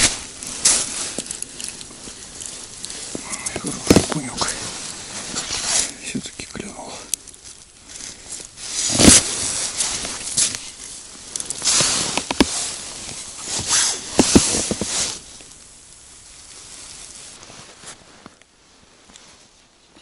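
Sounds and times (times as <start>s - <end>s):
jacket and snow rustling: 0.0s - 20.0s.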